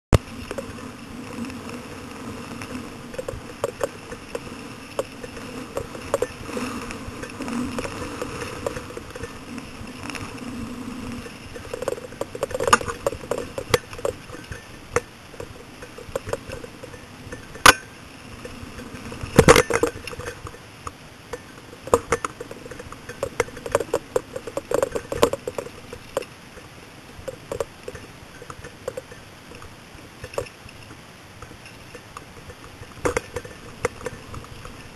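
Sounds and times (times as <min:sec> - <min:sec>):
bike tyres and wind noise: 0:00.1 - 0:34.9
bike clanking over jolts: 0:00.2 - 0:26.3, 0:27.2 - 0:34.9
bike clicks and rattles: 0:00.2 - 0:34.9.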